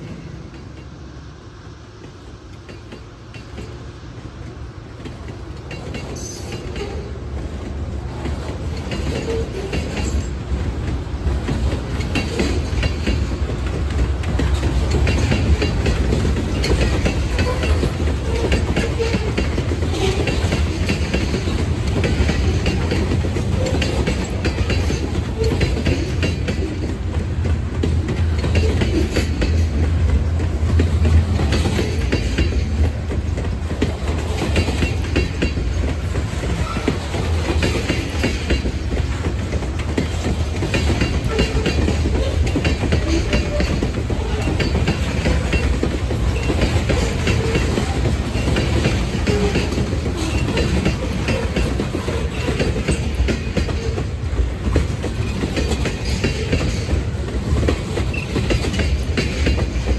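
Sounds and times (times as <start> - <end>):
freight train rumbling: 0.0 - 59.9
wheels clickety-clack on track: 0.0 - 59.9.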